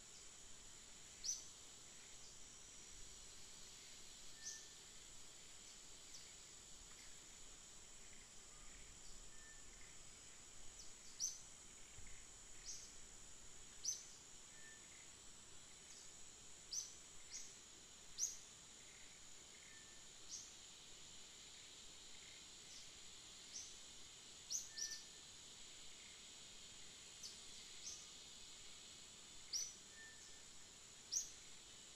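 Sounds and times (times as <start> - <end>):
insect drone: 0.0 - 31.9.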